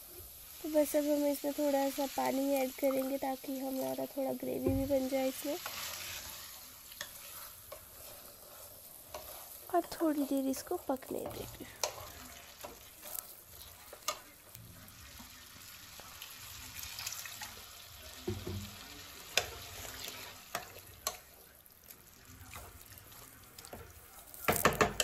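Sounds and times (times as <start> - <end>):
curry simmering with faint sizzle: 0.0 - 25.0.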